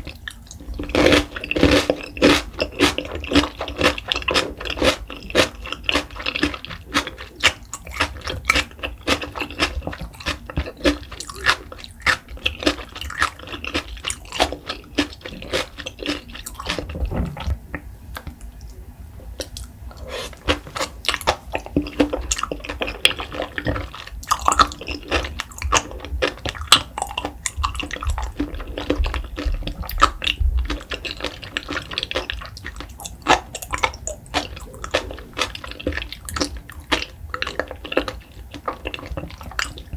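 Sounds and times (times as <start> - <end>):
wet chewing mouth sounds: 0.0 - 39.9.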